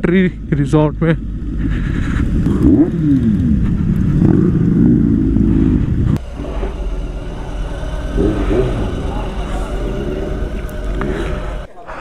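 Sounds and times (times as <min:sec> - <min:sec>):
motorcycle engine running: 0:00.0 - 0:11.7
quiet rumble: 0:00.0 - 0:11.7.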